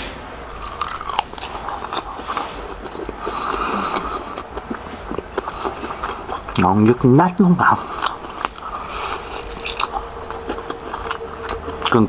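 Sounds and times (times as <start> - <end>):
person chewing crispy food: 0.5 - 12.0.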